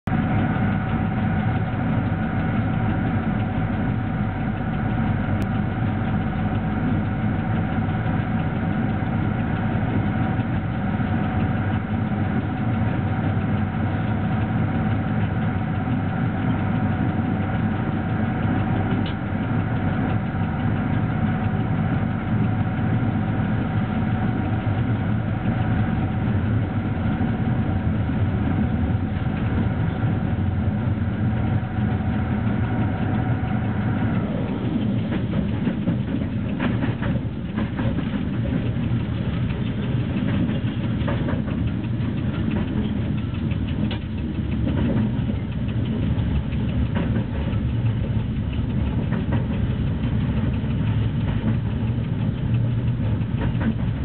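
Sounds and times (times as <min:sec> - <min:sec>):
locomotive drone: 0:00.0 - 0:54.0
thin steady whine: 0:00.1 - 0:54.0
wheels on rail: 0:00.1 - 0:54.0.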